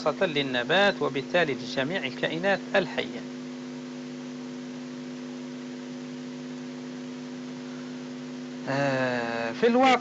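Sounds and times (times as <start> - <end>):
mains hum: 0.0 - 10.0.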